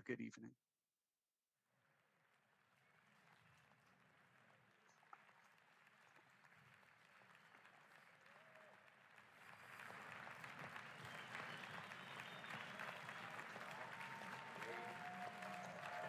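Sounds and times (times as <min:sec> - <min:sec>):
many hands clapping: 0:03.0 - 0:16.0.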